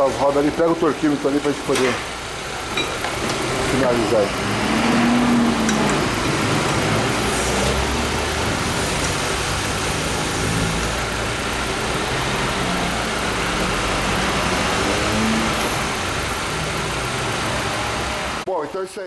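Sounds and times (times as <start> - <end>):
car engine idling: 0.0 - 18.5.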